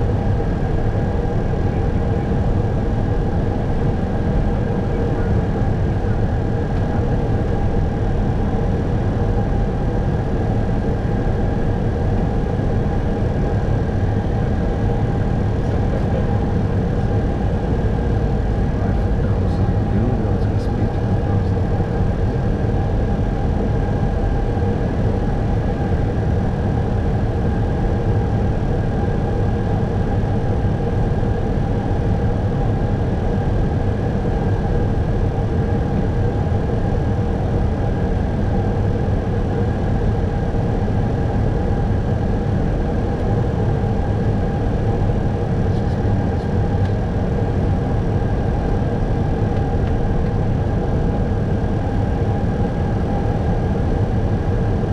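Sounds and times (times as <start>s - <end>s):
cockpit airflow and engine hum: 0.0s - 54.9s.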